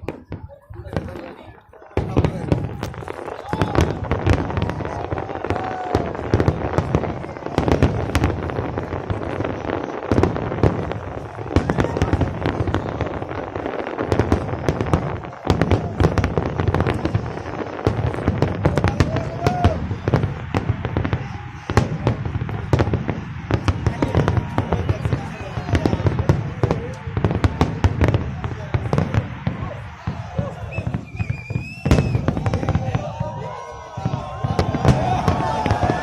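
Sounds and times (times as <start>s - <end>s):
fireworks bangs and crackling: 0.0s - 36.0s
fireworks whistling: 0.0s - 36.0s.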